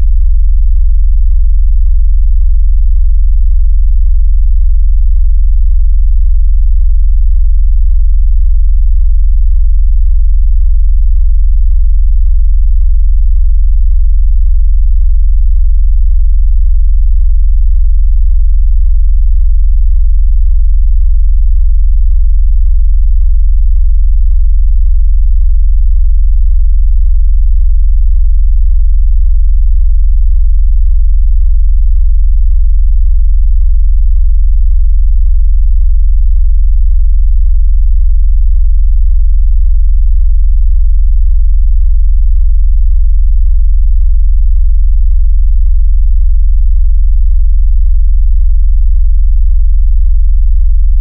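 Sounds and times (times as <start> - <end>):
deep sub-bass sine tone: 0.0 - 51.0.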